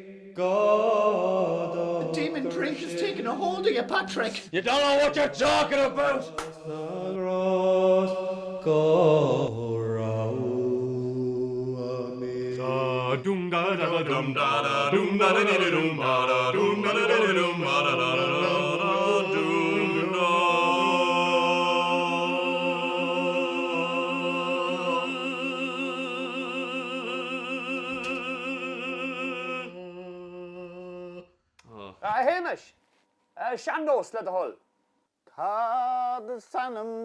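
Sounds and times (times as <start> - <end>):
men singing wordless chant: 0.0 - 31.9, 35.4 - 37.0.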